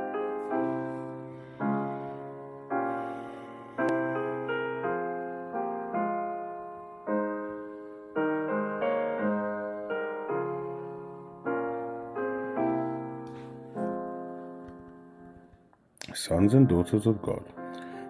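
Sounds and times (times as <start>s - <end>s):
slow solo piano: 0.0s - 15.7s, 16.4s - 18.0s.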